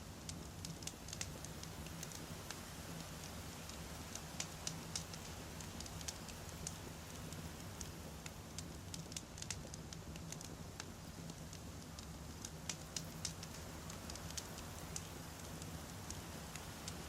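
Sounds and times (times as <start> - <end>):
crackles and pops of burning logs: 0.0 - 17.0
low rumble of flames: 0.0 - 17.0.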